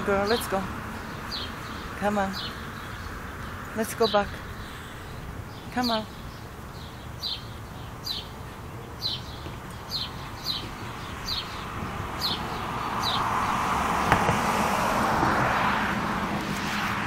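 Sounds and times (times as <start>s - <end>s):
car passing: 0.0s - 5.6s, 6.3s - 17.0s
bird chirping: 0.0s - 13.8s.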